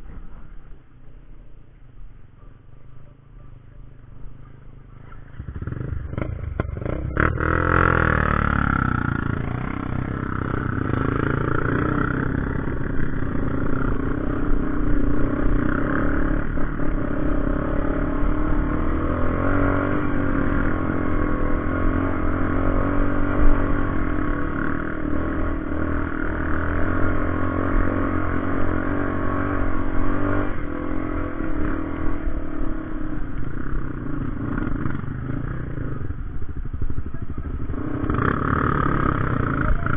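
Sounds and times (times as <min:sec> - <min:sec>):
motorcycle engine revving: 0:04.2 - 0:39.9.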